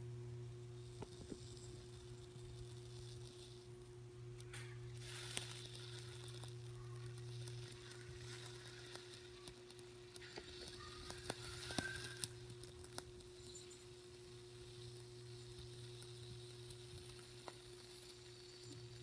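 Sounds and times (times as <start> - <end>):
sharp sparking pops: 0.0 - 19.0
transformer humming: 0.0 - 19.0
wire sizzling and crackling: 0.0 - 19.0.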